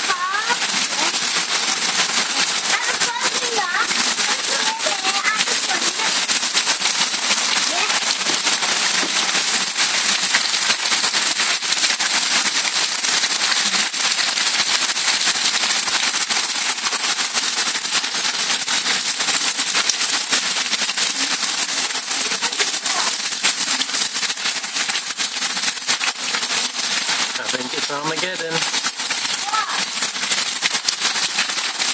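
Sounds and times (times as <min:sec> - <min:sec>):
heavy rain pelting down: 0:00.0 - 0:31.9.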